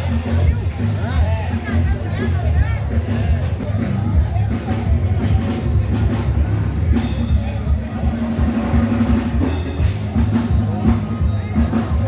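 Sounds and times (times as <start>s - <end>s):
band music with drums and bass: 0.0s - 12.0s.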